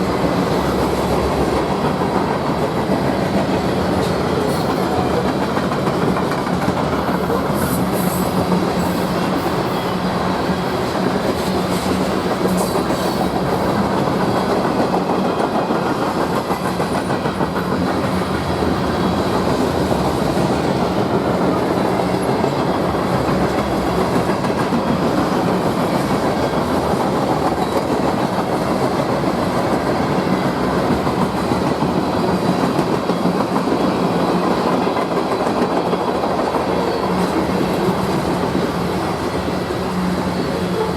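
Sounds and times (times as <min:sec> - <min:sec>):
train cars rolling past: 0:00.0 - 0:40.9.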